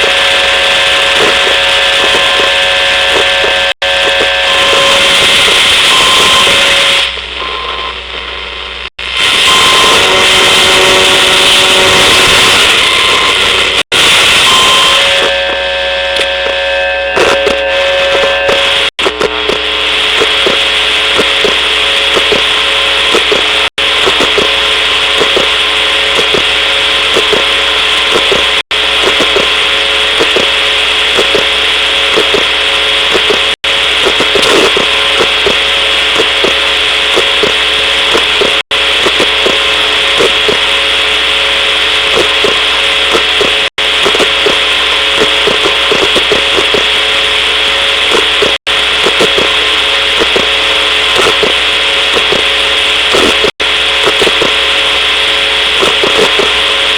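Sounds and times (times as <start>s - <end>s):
electronic buzz and hiss: 0.0s - 56.9s
regular electronic pulsing: 0.0s - 56.9s
steady whining tones: 0.0s - 56.9s.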